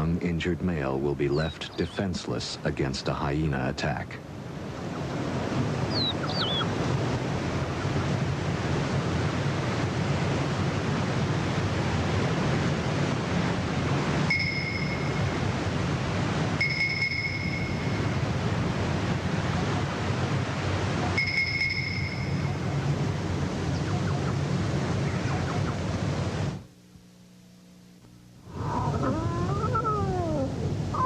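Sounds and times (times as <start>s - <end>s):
rushing wind: 0.0s - 26.6s, 28.4s - 31.0s.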